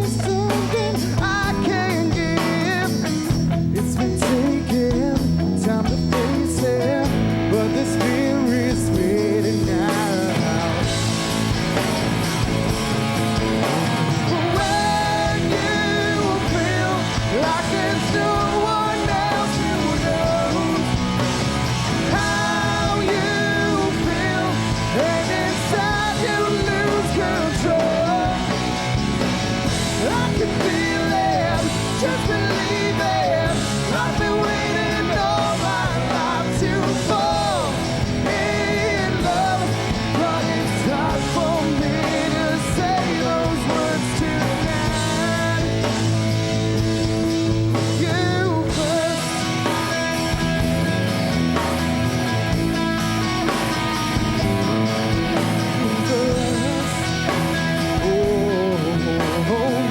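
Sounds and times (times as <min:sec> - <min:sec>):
person singing: 0:00.0 - 0:11.1, 0:14.2 - 0:29.0, 0:29.7 - 0:46.3, 0:47.7 - 0:50.8, 0:54.4 - 0:59.9
rock band playing: 0:00.0 - 0:59.9.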